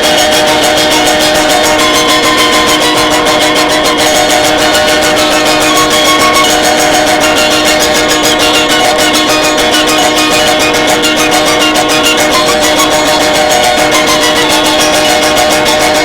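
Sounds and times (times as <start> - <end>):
loud guitar music over drone: 0.0 - 16.0.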